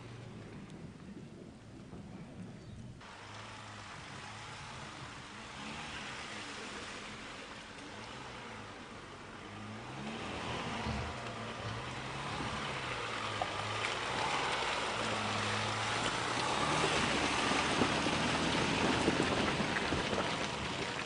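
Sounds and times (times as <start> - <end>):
diesel engine running at low revs: 3.0 - 21.0
tyres splashing through mud puddles: 3.0 - 21.0.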